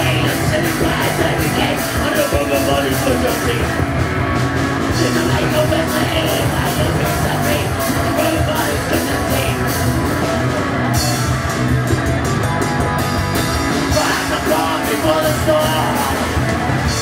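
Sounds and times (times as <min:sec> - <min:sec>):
drum kit with cymbal hits: 0:00.0 - 0:17.0
electric guitar: 0:00.0 - 0:17.0.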